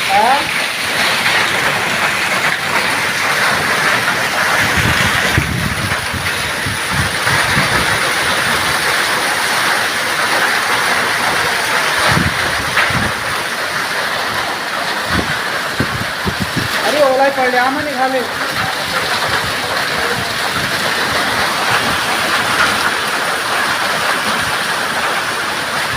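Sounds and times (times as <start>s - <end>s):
hailstones thumping: 0.0s - 25.9s
heavy rain hiss: 0.0s - 25.9s.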